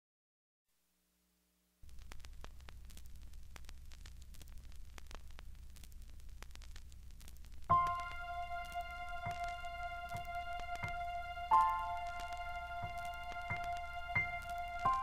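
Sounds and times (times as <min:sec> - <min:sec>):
low steady hum: 0:01.0 - 0:15.0
crackles and clicks: 0:01.7 - 0:15.0.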